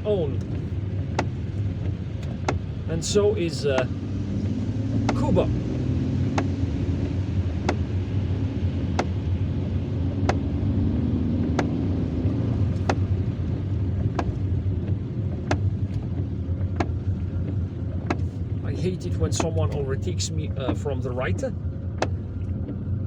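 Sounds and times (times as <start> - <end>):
car engine and road drone: 0.0 - 23.0
heavy rain on car: 0.0 - 23.0
windscreen wipers squeaking: 0.0 - 23.0.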